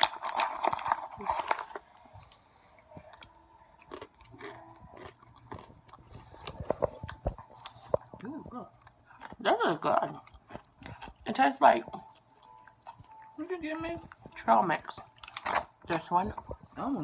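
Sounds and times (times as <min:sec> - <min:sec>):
person chewing crunchy snack: 0:00.0 - 0:11.3, 0:12.0 - 0:13.4, 0:14.0 - 0:16.7.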